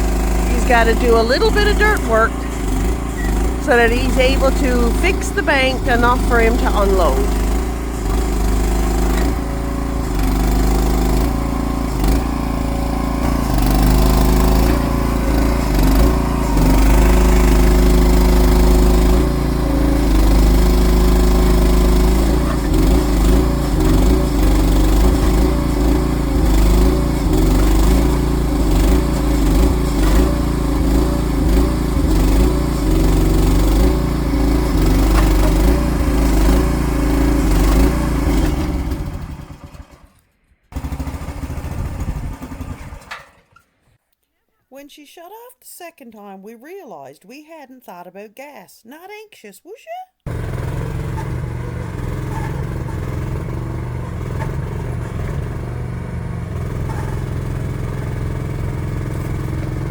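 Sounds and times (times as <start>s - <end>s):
excavator engine running: 0.0s - 40.1s, 40.8s - 43.5s, 50.3s - 59.9s.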